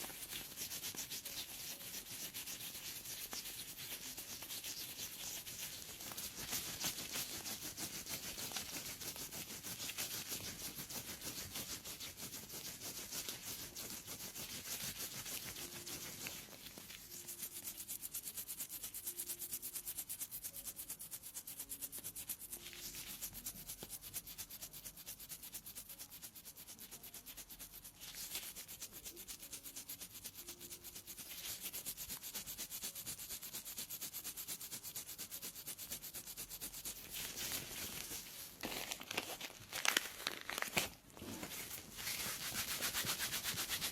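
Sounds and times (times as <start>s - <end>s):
pedicure tool scraping skin: 0.0s - 43.9s.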